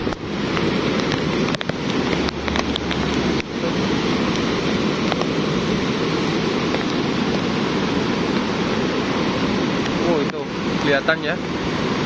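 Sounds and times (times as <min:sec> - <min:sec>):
flood water rushing through gorge: 0:00.0 - 0:12.0.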